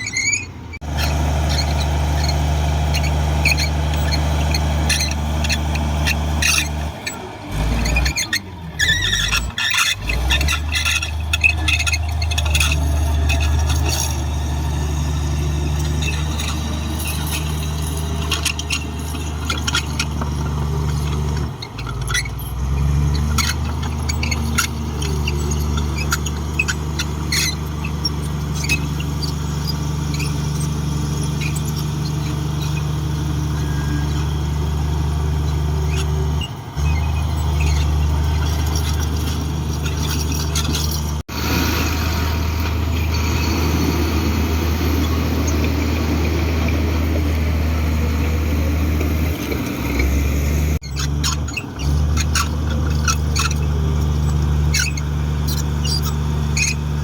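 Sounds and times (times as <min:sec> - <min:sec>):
bulldozer diesel engine running: 0:00.0 - 0:57.0
high squeaks: 0:00.0 - 0:57.0.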